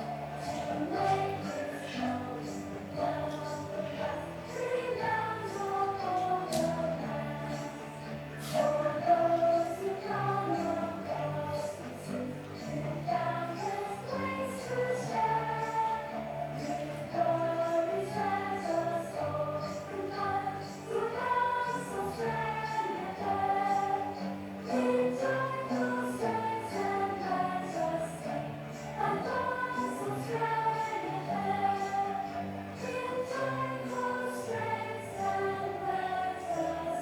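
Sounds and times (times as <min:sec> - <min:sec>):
choir singing a melody: 0:00.0 - 0:37.0.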